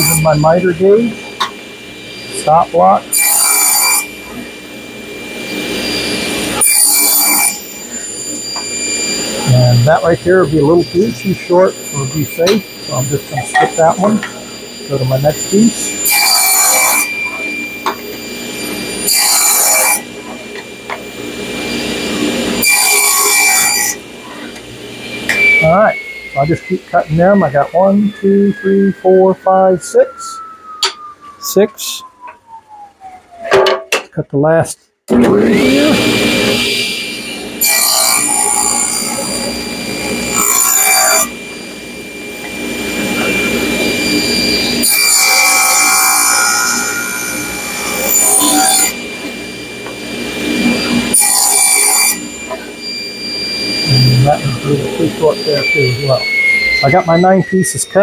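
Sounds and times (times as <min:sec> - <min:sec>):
table saw cutting wood: 0:00.0 - 0:33.9, 0:35.1 - 0:58.0.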